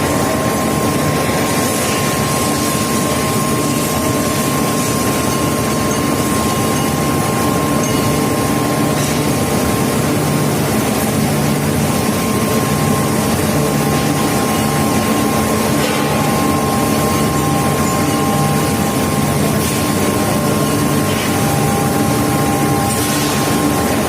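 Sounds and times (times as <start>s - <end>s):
high-pitched whine: 0.0s - 24.0s
induction furnace rush and hum: 0.0s - 24.0s.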